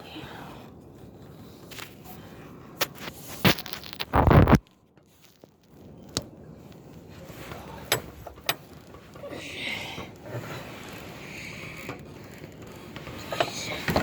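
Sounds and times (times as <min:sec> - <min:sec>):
close scraping and rustling: 0:00.2 - 0:14.0.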